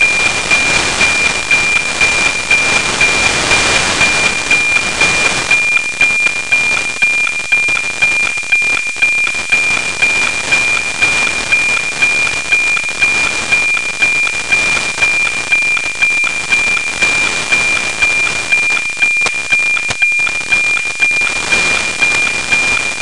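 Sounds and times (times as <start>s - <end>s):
static hiss: 0.0s - 23.0s
ticking satellite signal tone: 0.0s - 23.0s.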